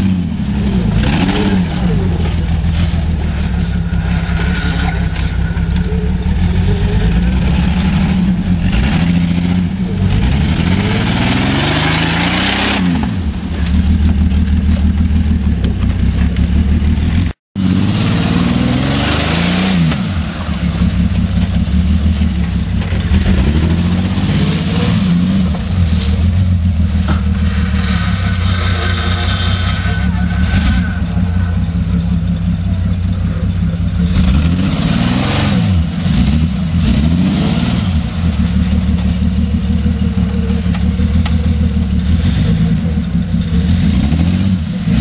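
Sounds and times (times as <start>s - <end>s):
vehicle engine revving: 0.0s - 45.0s.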